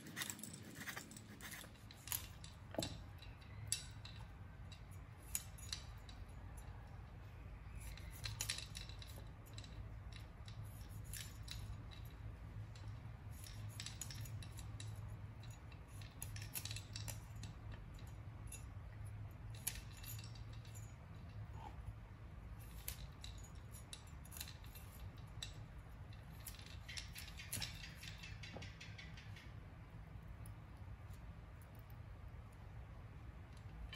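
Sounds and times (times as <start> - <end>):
faint low hum: 0.0 - 33.9.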